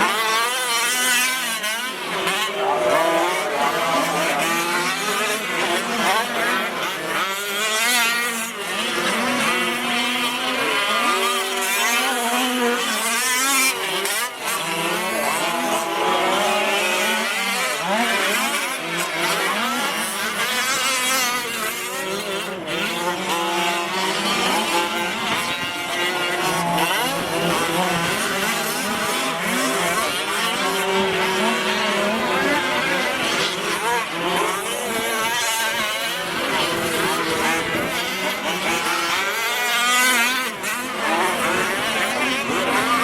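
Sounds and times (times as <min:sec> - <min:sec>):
rc truck engines revving: 0:00.0 - 0:43.0.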